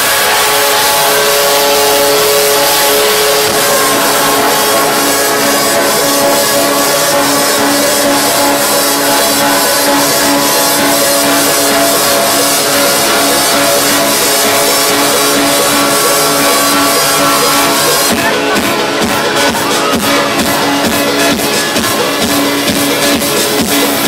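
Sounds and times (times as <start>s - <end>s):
electronic dance music: 0.0s - 24.0s.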